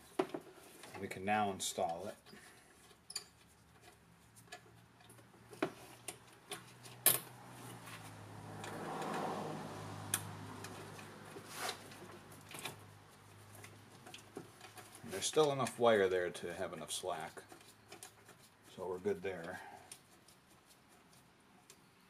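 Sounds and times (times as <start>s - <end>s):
wire and gloves rustling: 0.0s - 22.0s.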